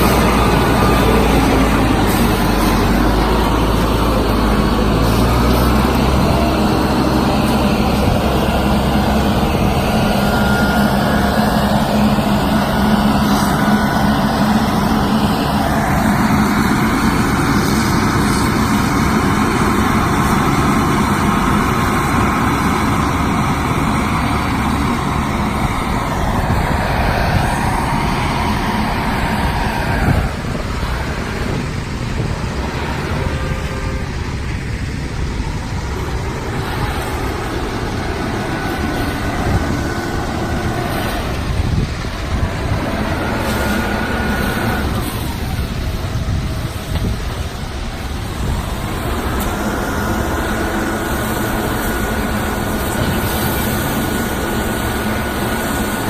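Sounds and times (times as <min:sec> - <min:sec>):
diesel engine running: 0:00.0 - 0:56.0
noisy machine sound: 0:00.0 - 0:56.0.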